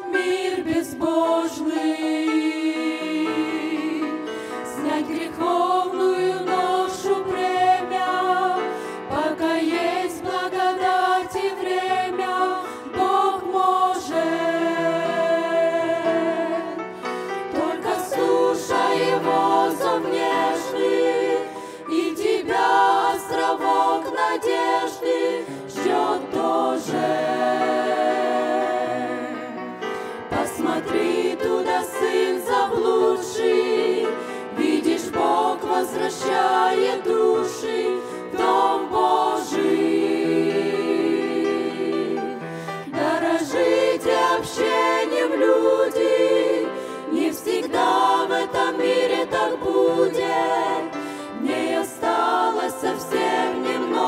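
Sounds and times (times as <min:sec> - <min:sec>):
women's group singing a hymn: 0:00.0 - 0:54.0.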